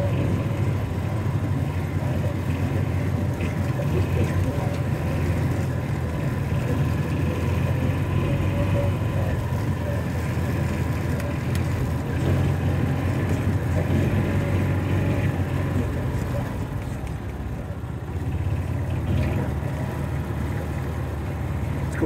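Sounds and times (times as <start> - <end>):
utility vehicle engine droning: 0.0 - 22.0.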